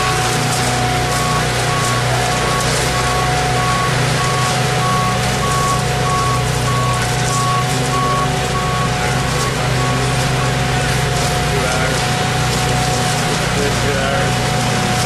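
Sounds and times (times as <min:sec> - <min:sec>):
engines droning: 0:00.0 - 0:15.0
vehicle backup alarm beeping: 0:00.0 - 0:15.0.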